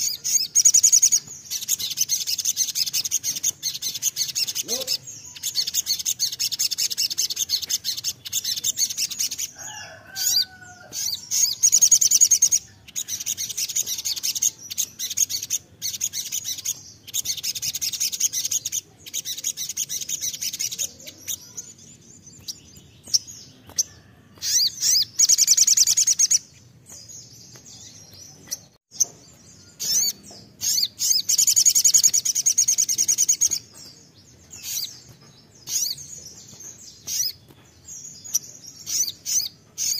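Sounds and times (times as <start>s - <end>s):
sunbird buzzy trilling song: 0.0s - 39.9s.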